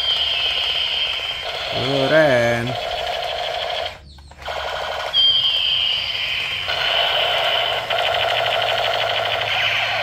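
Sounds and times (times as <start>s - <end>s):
toy gun pulsing beeps: 0.0s - 10.0s.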